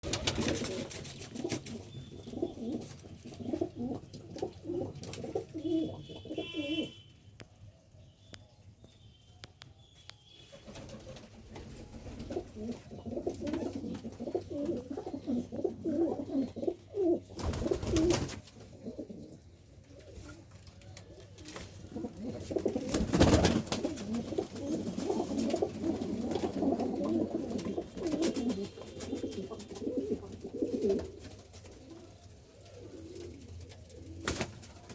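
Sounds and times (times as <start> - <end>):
pigeons cooing: 0.1 - 7.0, 12.1 - 20.4, 21.4 - 34.5.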